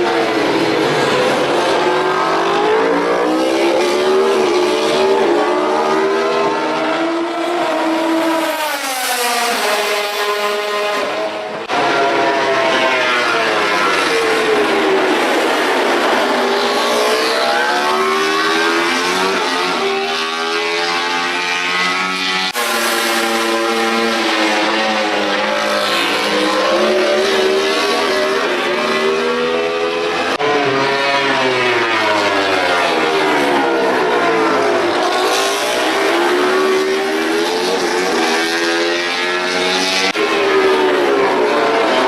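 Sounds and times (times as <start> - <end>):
racing motorcycles revving: 0.0 - 42.0.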